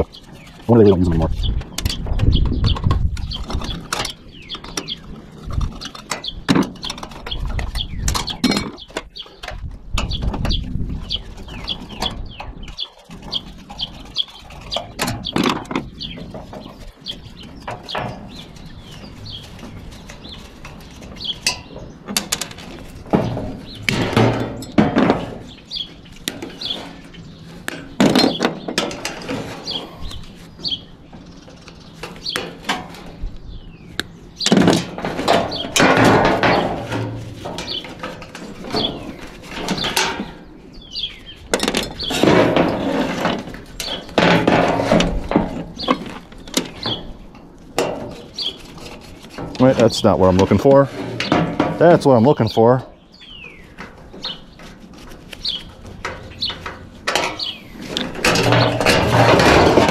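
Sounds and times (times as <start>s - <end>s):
bird chirping: 0.0s - 22.4s, 23.2s - 28.8s, 29.5s - 34.6s, 37.5s - 38.0s, 38.6s - 42.4s, 45.2s - 47.4s, 48.1s - 58.9s
metal clanking and scraping: 0.0s - 33.3s, 34.4s - 59.9s.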